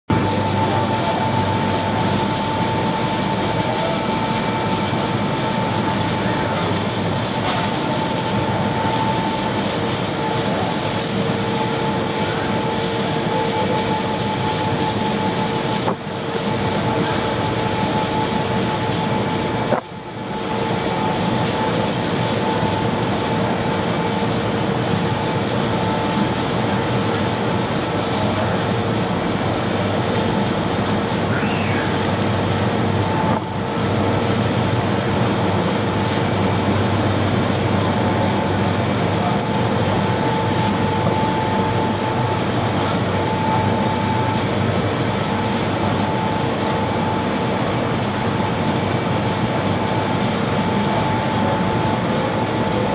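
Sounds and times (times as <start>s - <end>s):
boat engines droning: 0.1s - 52.9s.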